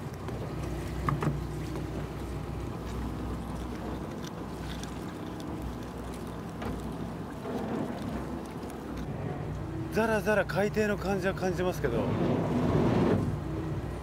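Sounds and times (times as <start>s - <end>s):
boat engine rumbling: 0.0s - 14.0s
water noise: 0.0s - 14.0s
wind: 0.0s - 14.0s.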